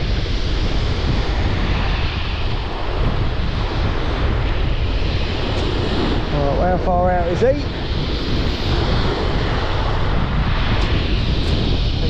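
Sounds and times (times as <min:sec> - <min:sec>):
surf breaking on shore: 0:00.0 - 0:12.0
wind buffeting microphone: 0:00.0 - 0:12.0.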